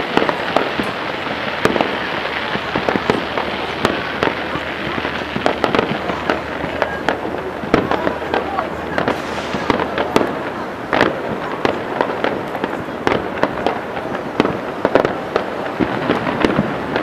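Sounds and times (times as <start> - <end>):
continuous rumbling haze: 0.0 - 17.0
fireworks bangs and crackles: 0.0 - 17.0.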